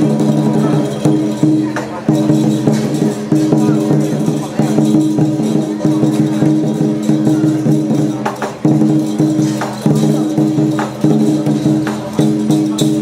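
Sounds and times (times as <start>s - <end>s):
drum gong and cymbals percussion: 0.0s - 13.0s.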